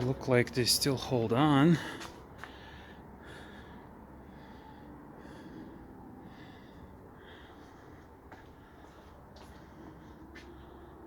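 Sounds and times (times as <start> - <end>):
person breathing softly: 1.7 - 11.0.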